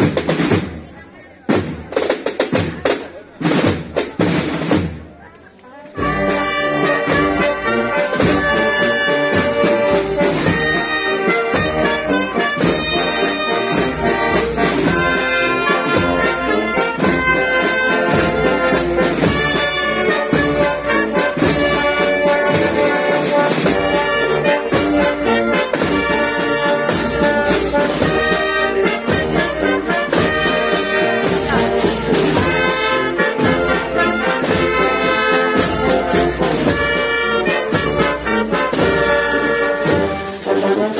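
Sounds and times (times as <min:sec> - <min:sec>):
drum strokes: 0:00.0 - 0:00.9, 0:01.5 - 0:05.1, 0:06.0 - 0:40.9
brass band playing a march: 0:00.0 - 0:05.1, 0:05.9 - 0:40.9
tuba bass: 0:06.0 - 0:40.9.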